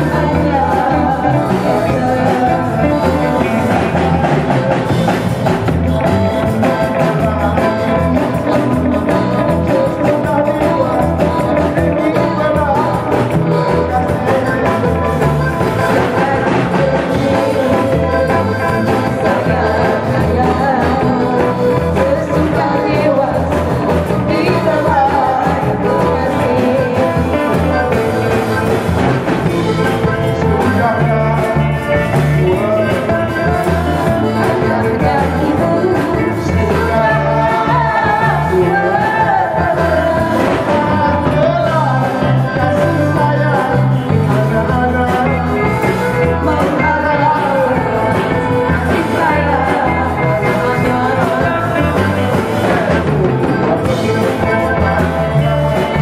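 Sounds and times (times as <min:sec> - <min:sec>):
bass guitar: 0:00.0 - 0:56.0
drum kit beat: 0:00.0 - 0:56.0
electric guitar: 0:00.0 - 0:56.0
woman singing: 0:00.0 - 0:56.0.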